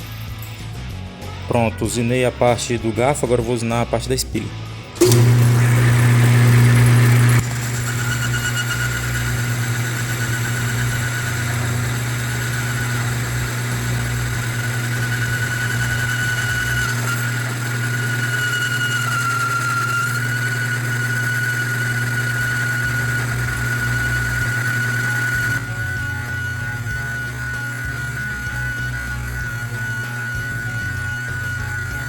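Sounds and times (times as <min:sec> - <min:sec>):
metal lathe running: 0:05.0 - 0:32.0
motor hum: 0:05.0 - 0:32.0
steady whine: 0:05.0 - 0:32.0.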